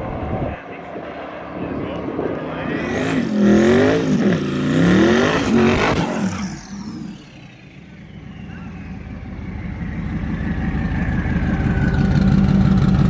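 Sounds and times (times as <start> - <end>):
car engine at hard throttle: 0.0 - 13.0.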